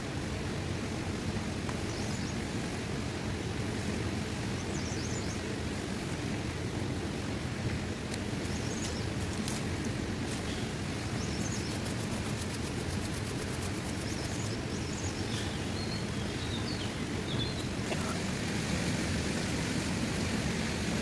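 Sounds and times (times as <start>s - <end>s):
steady rushing outdoor noise: 0.0s - 21.0s.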